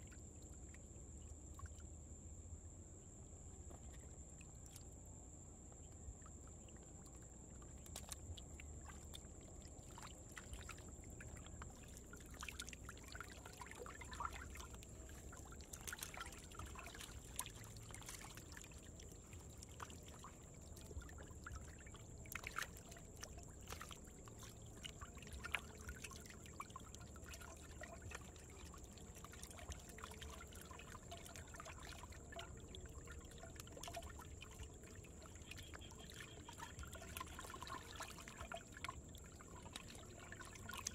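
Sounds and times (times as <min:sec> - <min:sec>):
shallow water trickling: 0:00.0 - 0:40.9
small fish splashes: 0:07.0 - 0:40.9.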